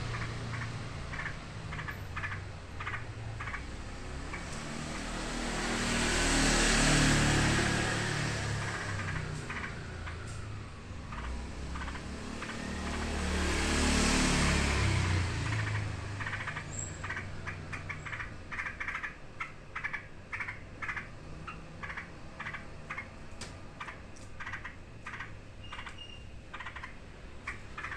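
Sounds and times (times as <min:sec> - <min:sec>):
bird alarm chips: 0:00.0 - 0:27.9
passing vehicle rumbling: 0:00.0 - 0:27.9.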